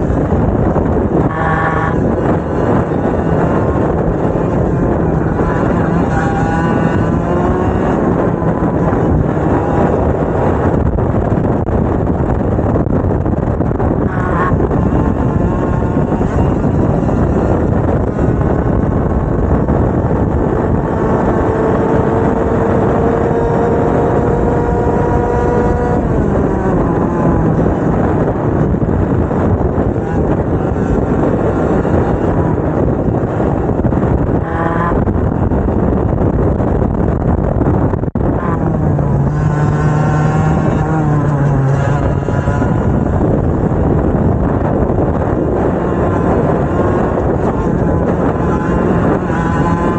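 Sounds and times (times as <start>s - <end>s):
kart engine running hard: 0.0s - 49.9s
low rumbling noise: 0.0s - 49.9s.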